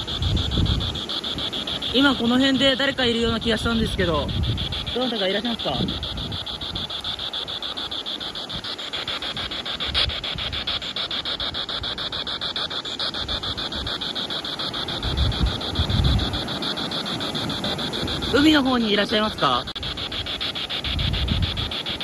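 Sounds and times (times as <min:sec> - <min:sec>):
radio static chopping hiss: 0:00.0 - 0:22.0.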